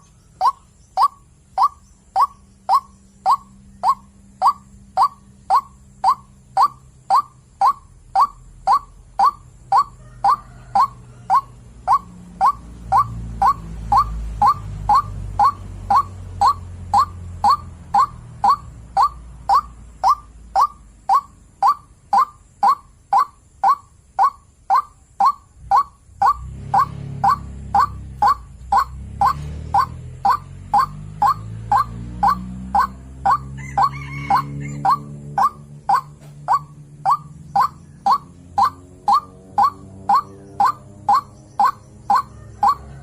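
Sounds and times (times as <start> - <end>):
waterhen calling: 0.0 - 43.0.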